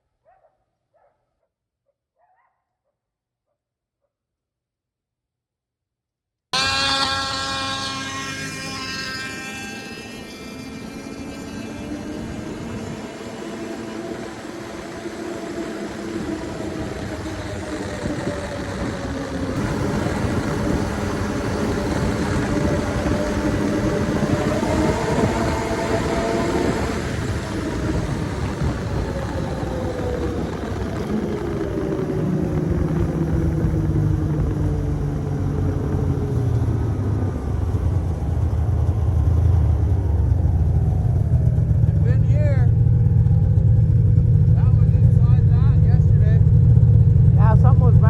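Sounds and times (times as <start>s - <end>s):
snowmobile engine running: 6.6s - 48.0s.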